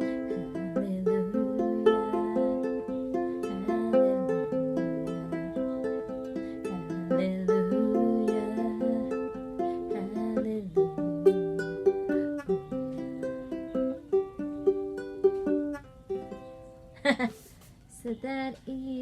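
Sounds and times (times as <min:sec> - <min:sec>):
ukulele melody: 0:00.0 - 0:17.1.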